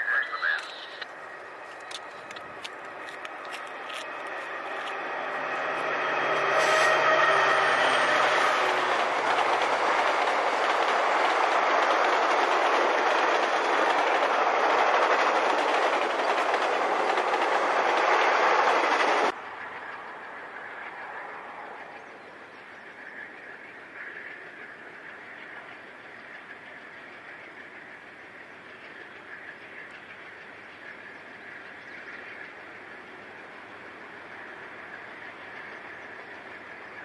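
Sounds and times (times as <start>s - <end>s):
diesel locomotive engine: 0.0s - 37.0s
faint distant train noise: 0.0s - 37.0s
train wheels rolling on rails: 0.0s - 37.0s.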